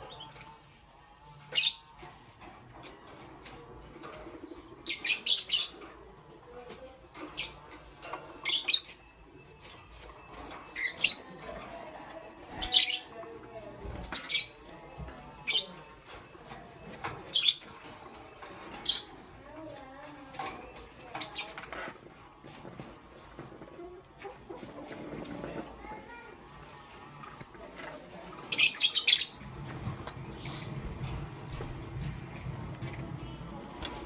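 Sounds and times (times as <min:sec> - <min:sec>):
lovebirds chirping: 0:00.0 - 0:34.0
quiet bird chattering: 0:00.0 - 0:34.0.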